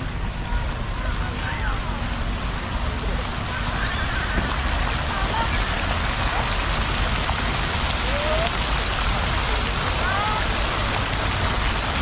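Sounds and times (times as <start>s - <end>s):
faint voices: 0.0s - 12.0s
fountain water splashing: 0.0s - 12.0s.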